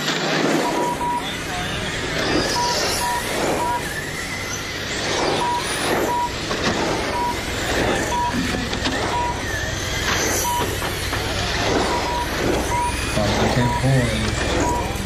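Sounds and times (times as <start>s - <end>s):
rc race cars whirring past: 0.0s - 15.0s
short electronic beeps: 0.4s - 6.4s, 7.0s - 10.9s, 11.6s - 15.0s.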